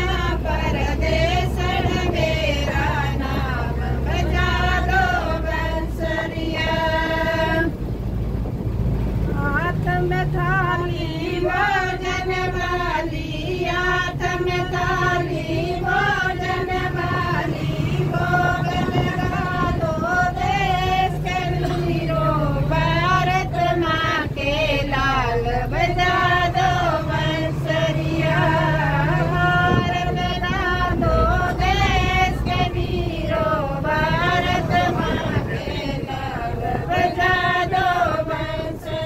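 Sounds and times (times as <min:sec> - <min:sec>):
women singing together: 0:00.0 - 0:07.9, 0:09.3 - 0:39.0
low bus engine drone: 0:00.0 - 0:39.0.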